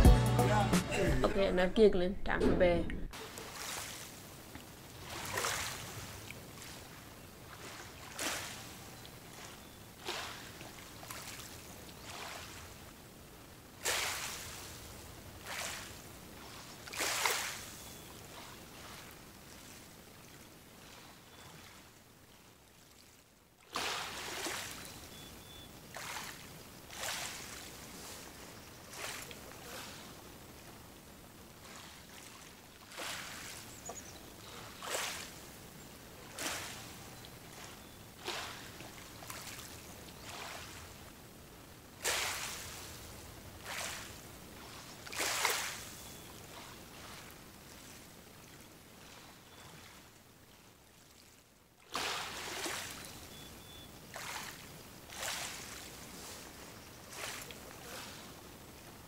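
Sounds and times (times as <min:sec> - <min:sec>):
small waves lapping: 0:03.1 - 0:59.0.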